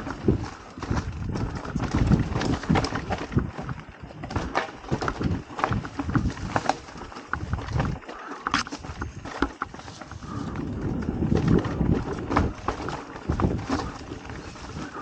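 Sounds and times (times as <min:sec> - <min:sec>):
bike rattling and clicking: 0:00.0 - 0:15.0
tyres rumbling on dirt: 0:00.0 - 0:15.0.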